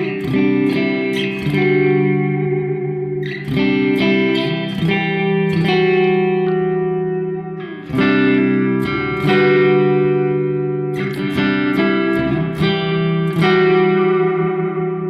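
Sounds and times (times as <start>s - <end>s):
electric guitar chords with reverb: 0.0s - 15.0s.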